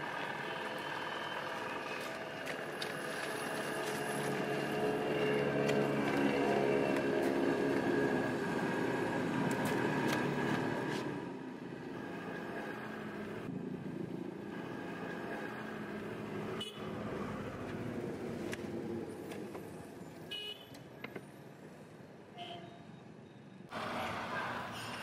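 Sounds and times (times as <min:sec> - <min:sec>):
road traffic hum: 0:00.0 - 0:25.0.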